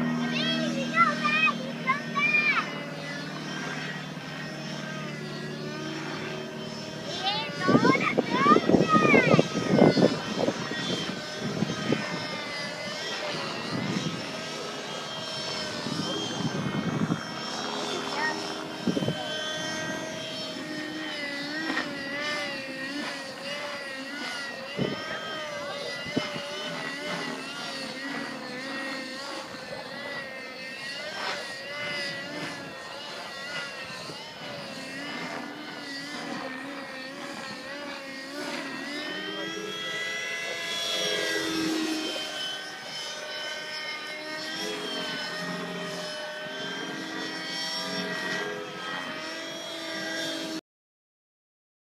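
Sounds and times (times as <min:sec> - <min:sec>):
model helicopter rotor whine: 0:00.0 - 0:50.6.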